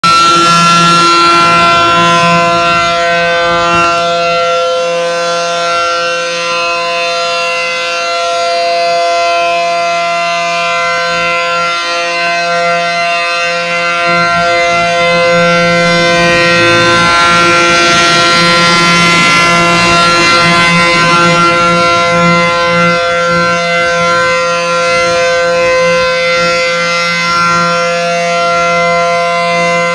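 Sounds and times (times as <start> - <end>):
warning siren steady tone: 0.0 - 29.9.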